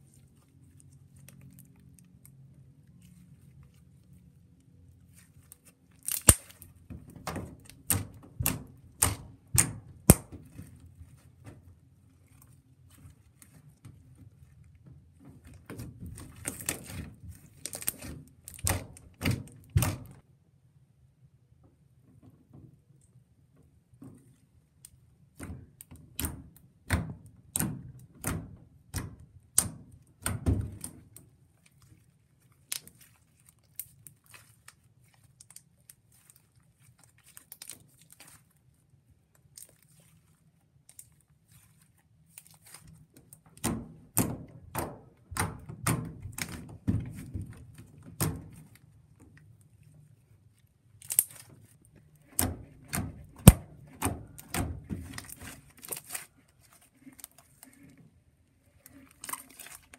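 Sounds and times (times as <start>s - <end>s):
slime squishing with wet clicks: 0.0s - 20.3s, 24.2s - 59.9s.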